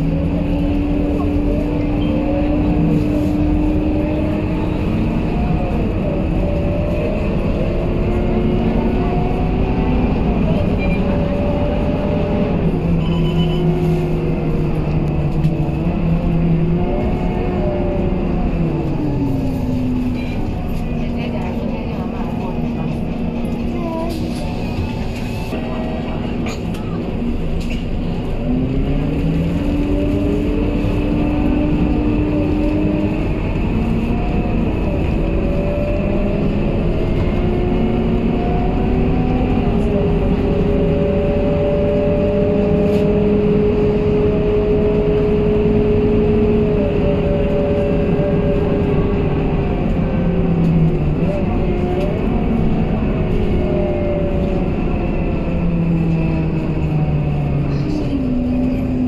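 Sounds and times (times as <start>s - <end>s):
bus engine and gearbox whining: 0.0s - 59.0s.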